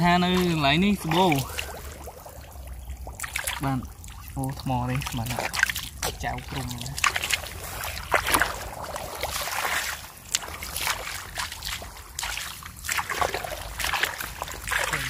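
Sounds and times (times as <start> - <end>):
feet wading through muddy water: 0.0 - 15.0
squelches in mud: 0.0 - 15.0.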